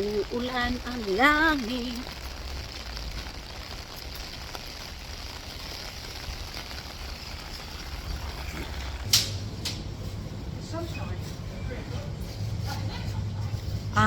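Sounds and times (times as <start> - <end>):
rain hiss: 0.0 - 14.0
road traffic rumble: 0.0 - 14.0.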